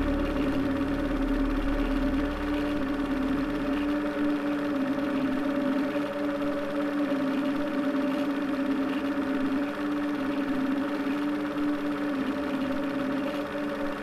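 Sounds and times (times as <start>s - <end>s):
constant whirr: 0.0s - 14.0s
projector motor humming: 0.0s - 14.0s.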